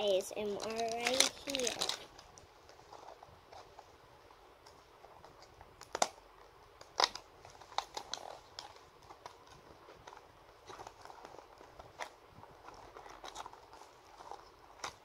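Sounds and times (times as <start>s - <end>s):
packaging crinkling: 0.4s - 3.8s, 5.2s - 15.0s.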